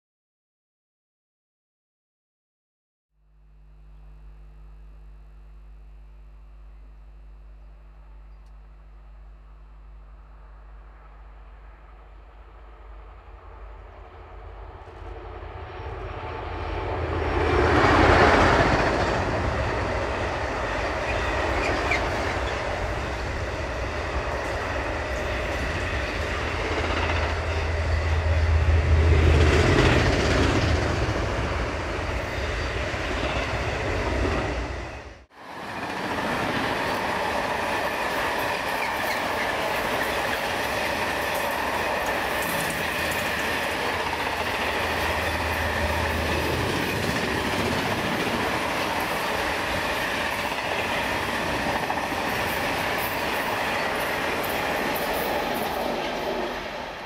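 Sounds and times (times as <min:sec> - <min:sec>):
train passing at speed: 0:10.4 - 0:57.0.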